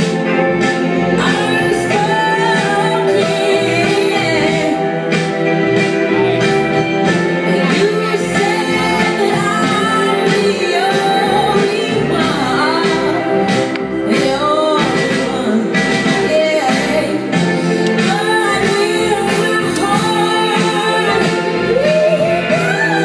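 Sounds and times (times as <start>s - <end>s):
dance music with vocals: 0.0s - 23.0s.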